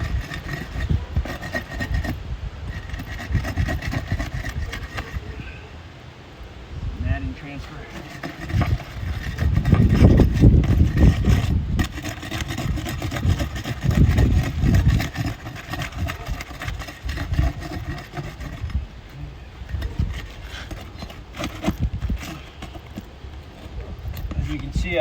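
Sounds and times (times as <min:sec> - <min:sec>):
shingles scraping and crackling: 0:00.0 - 0:05.6, 0:07.3 - 0:25.0.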